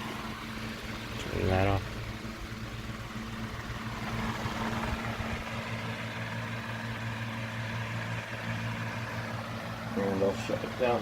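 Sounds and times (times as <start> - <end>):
electric motor hum: 0.0 - 11.0
fan air rushing: 0.0 - 11.0.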